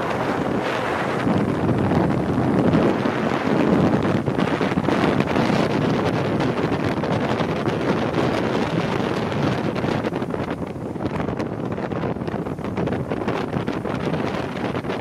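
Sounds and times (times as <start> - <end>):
boat engine: 0.0 - 15.0
water noise: 0.0 - 15.0
wind buffeting microphone: 0.0 - 15.0.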